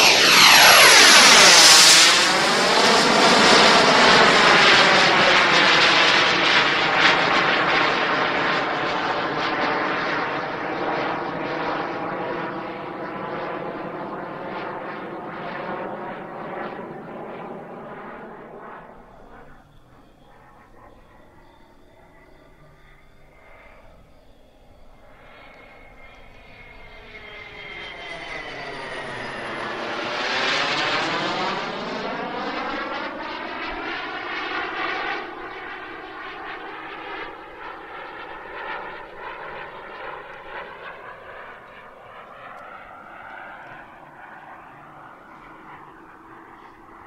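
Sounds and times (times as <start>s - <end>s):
model jet turbine passing: 0.0s - 47.0s.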